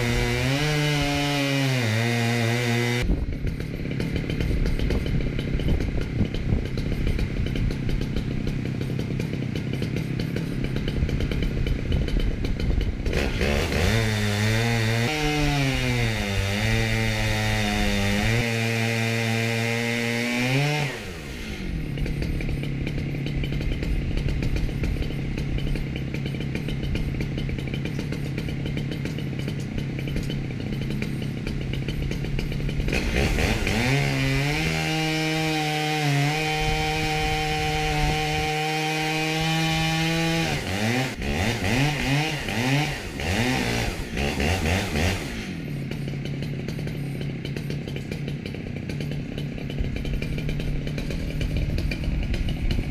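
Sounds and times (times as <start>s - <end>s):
chainsaw cutting log: 0.0s - 52.9s.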